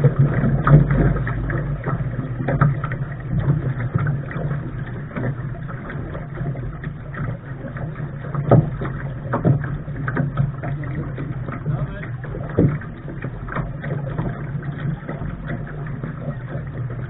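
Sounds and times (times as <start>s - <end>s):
low rumble: 0.0s - 17.0s
water noise: 0.0s - 17.0s
wind: 0.0s - 17.0s.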